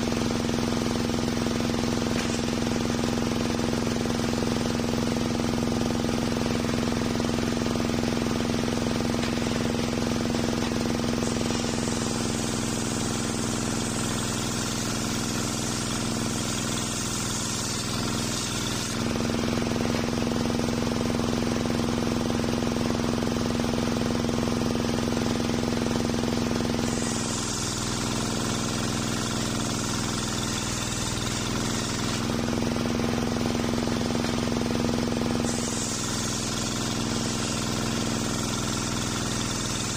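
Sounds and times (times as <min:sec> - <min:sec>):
saw blade cutting log: 0:00.0 - 0:22.3, 0:24.4 - 0:39.9
sawmill engine running: 0:00.0 - 0:39.9.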